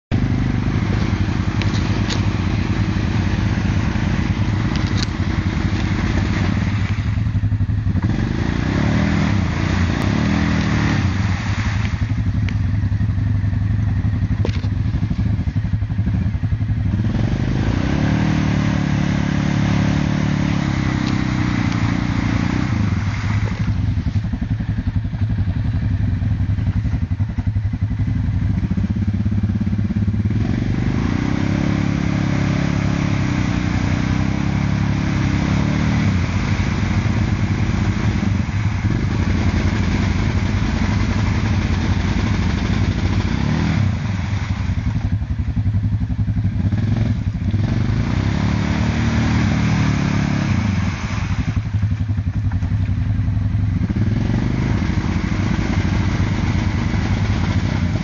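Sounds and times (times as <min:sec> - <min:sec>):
quad churning through muddy water: 0:00.1 - 0:58.0
quad engine revving under load: 0:00.1 - 0:58.0.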